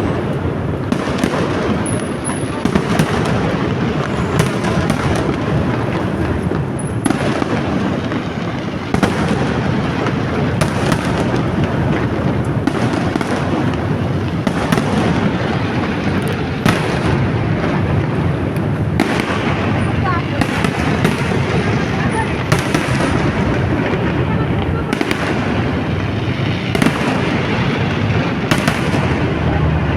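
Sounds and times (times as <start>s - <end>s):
fireworks crackling and banging: 0.0s - 29.9s.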